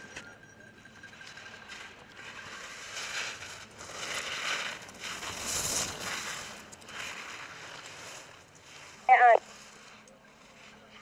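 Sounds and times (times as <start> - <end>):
skis scraping on snow: 1.2 - 11.0.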